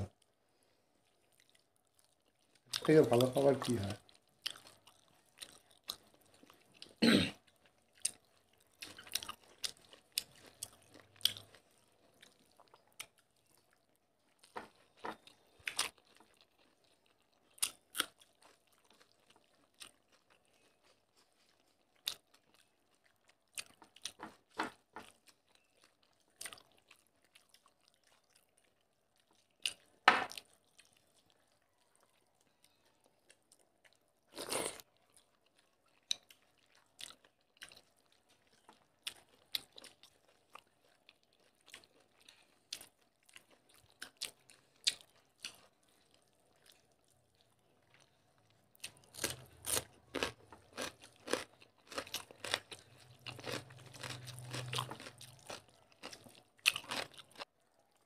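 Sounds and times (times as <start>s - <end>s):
people chewing food: 0.0s - 58.0s.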